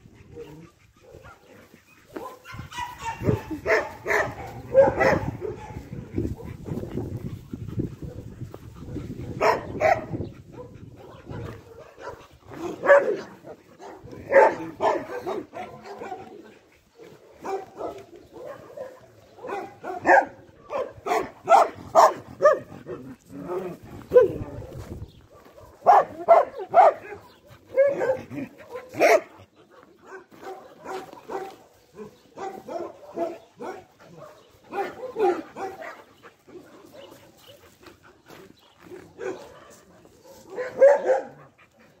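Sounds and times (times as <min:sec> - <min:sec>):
dogs barking: 0:00.0 - 0:42.0.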